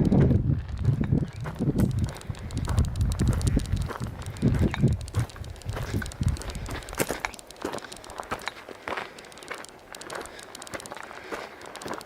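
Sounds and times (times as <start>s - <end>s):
footsteps walking: 0.0s - 12.0s
light clicks: 1.3s - 12.0s.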